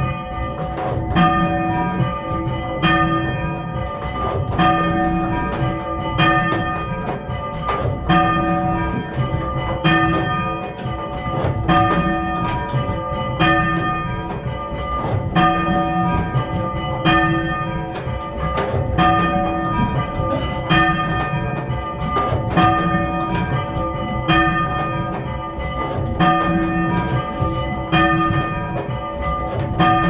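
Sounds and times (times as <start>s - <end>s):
church bells ringing: 0.0s - 30.0s.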